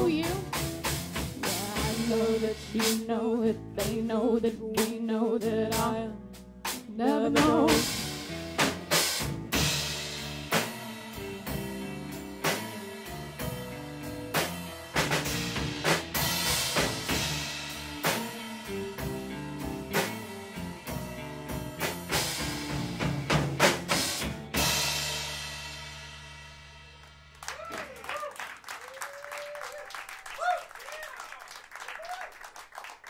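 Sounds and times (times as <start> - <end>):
live band playing: 0.0 - 27.5.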